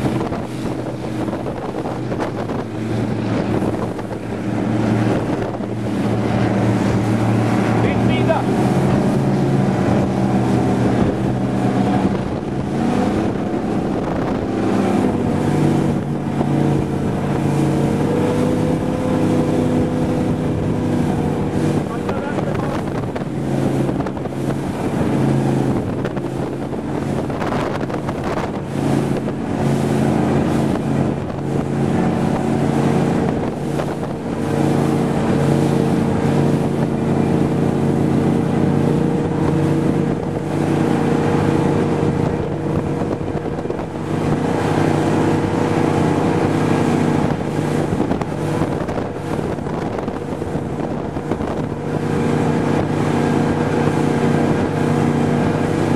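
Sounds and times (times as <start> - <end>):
powerboat engine running hard: 0.0 - 55.9
water rushing past hull: 0.0 - 55.9
wind buffeting microphone: 0.0 - 55.9.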